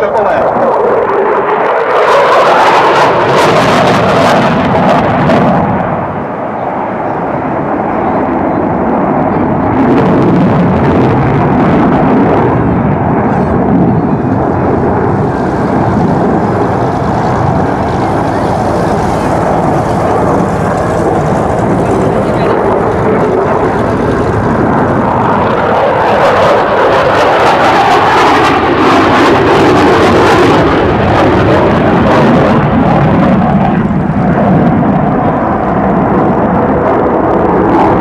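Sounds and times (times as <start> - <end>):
afterburner crackling: 0.0 - 38.0
jet engines with afterburners roaring: 0.0 - 38.0.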